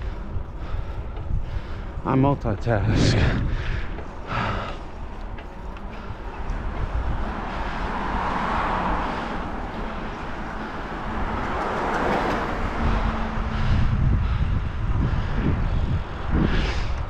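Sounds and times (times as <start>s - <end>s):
cars passing: 0.0s - 17.0s
wind buffeting microphone: 0.0s - 17.0s.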